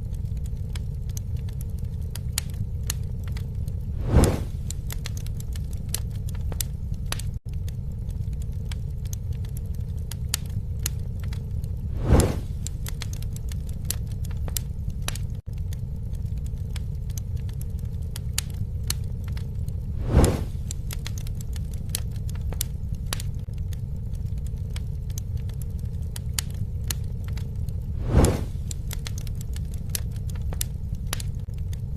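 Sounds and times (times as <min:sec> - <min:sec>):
campfire crackling and popping: 0:00.0 - 0:31.9
low fire rumble: 0:00.0 - 0:31.9.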